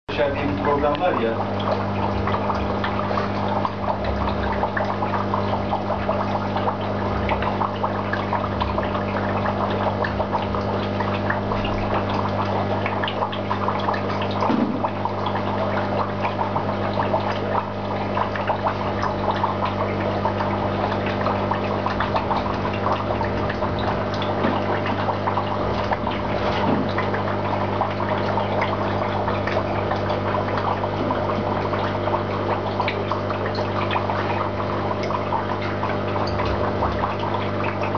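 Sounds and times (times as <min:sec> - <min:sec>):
aquarium water bubbling: 0:00.1 - 0:37.9
low electric hum: 0:00.1 - 0:37.9.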